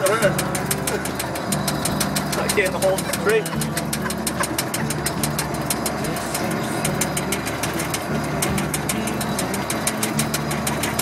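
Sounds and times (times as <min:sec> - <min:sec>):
rapid rattling knock: 0:00.0 - 0:11.0
truck engine and road drone: 0:00.0 - 0:11.0.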